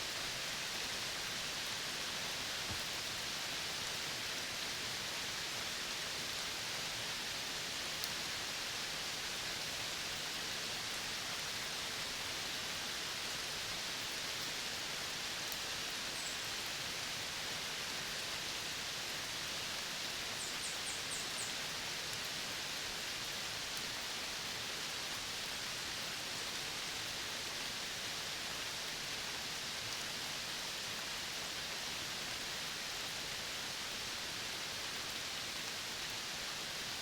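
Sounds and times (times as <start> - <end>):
forest ambience hiss: 0.0 - 37.0.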